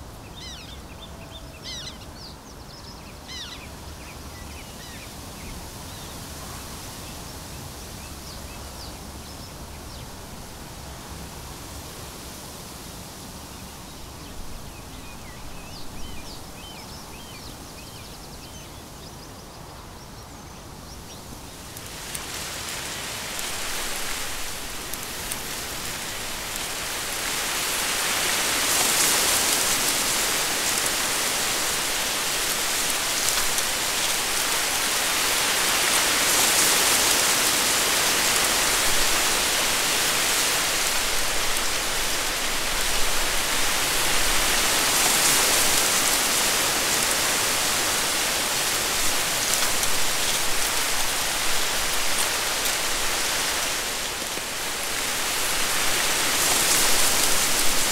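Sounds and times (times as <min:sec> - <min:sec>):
wind rustling through reeds: 0:00.0 - 0:57.9.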